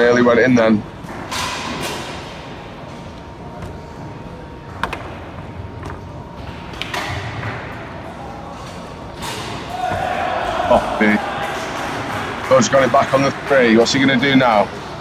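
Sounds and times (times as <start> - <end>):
hubbub of a large hall: 0.0 - 15.0.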